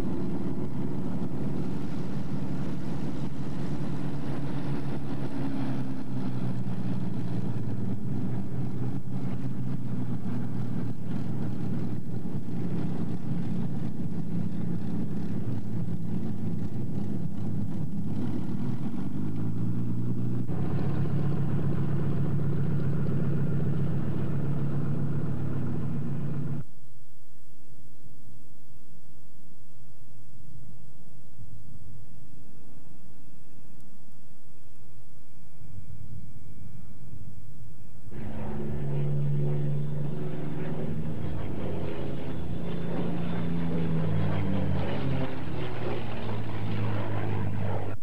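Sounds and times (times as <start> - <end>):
propeller plane engines running: 0.0 - 27.0, 29.4 - 48.0.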